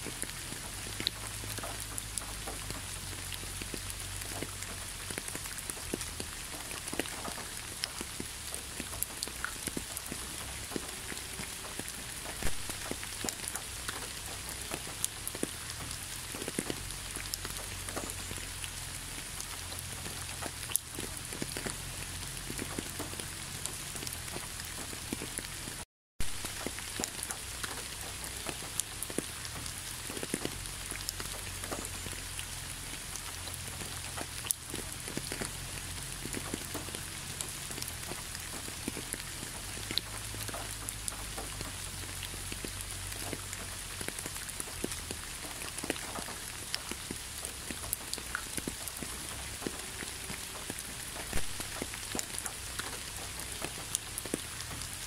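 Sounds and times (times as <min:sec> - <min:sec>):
close raindrop hits: 0:00.0 - 0:55.0
rain on wet road: 0:00.0 - 0:55.0.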